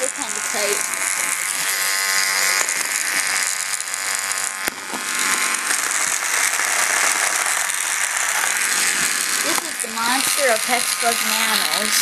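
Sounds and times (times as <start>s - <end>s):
toy robots buzzing and rattling: 0.0s - 12.0s.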